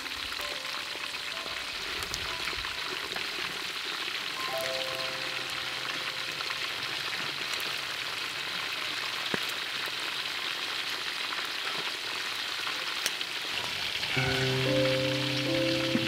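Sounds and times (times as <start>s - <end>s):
oil sizzling in a wok: 0.0s - 16.0s.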